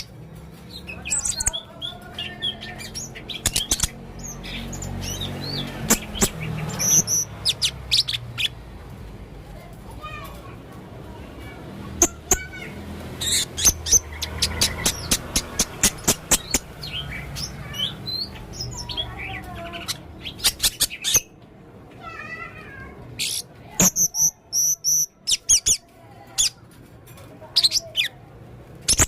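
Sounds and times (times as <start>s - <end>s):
parrot chirping: 0.0s - 8.7s, 11.4s - 21.4s, 22.0s - 26.6s, 27.6s - 28.2s.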